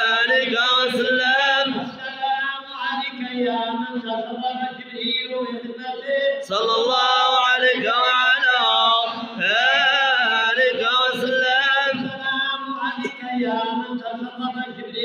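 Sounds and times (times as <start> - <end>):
men chanting a devotional song: 0.0 - 15.0.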